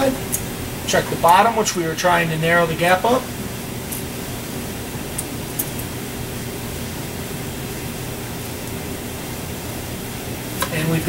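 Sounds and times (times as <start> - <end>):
room ventilation hum: 0.0 - 11.0.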